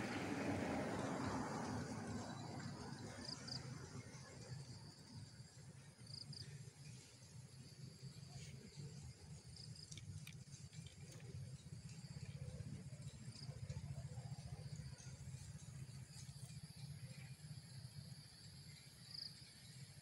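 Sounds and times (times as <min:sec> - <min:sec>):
insect chirping: 0:00.1 - 0:20.0.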